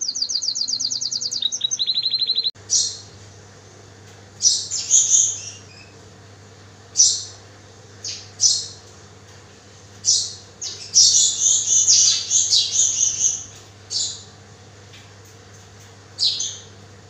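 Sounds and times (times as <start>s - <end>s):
small birds chirping: 0.0s - 3.6s, 4.4s - 14.4s, 15.0s - 16.9s
faint steady hum: 0.0s - 17.0s.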